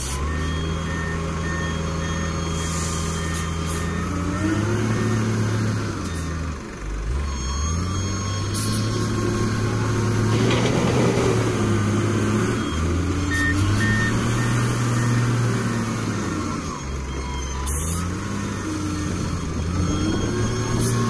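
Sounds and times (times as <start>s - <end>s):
wheel loader diesel engine: 0.0s - 21.0s.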